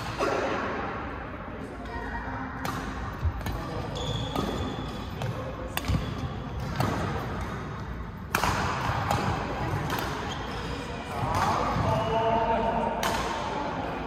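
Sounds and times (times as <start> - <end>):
rackets hitting a shuttlecock: 0.0 - 1.0, 2.6 - 12.0, 12.9 - 13.8.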